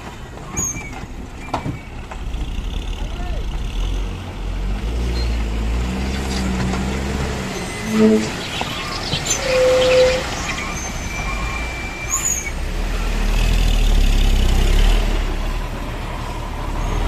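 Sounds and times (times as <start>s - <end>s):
diesel truck engine rumble: 0.0s - 17.0s.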